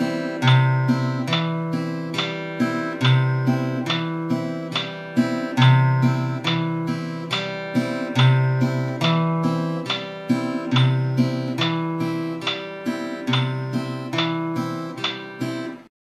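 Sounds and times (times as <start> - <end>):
fingerpicked acoustic guitar: 0.0 - 15.9.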